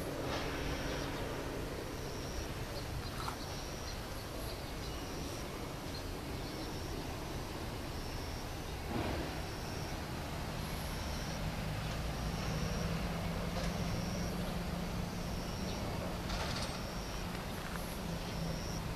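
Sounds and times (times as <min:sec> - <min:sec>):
low vehicle engine hum: 0:00.0 - 0:18.9.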